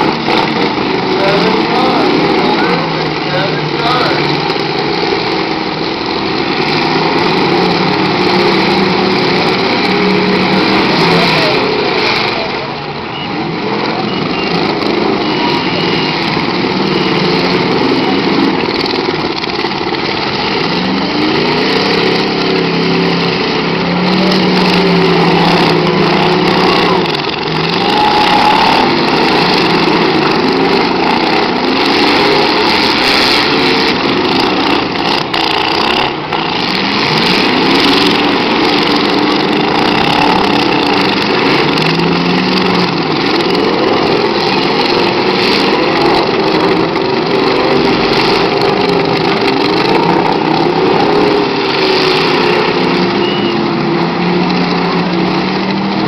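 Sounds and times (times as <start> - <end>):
car engines revving roughly: 0.0 - 56.0
cars knocking: 0.0 - 56.0.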